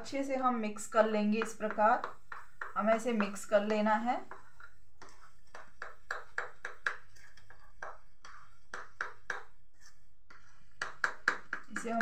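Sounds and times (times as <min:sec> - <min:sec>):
hand stirring thick batter: 0:00.0 - 0:12.0.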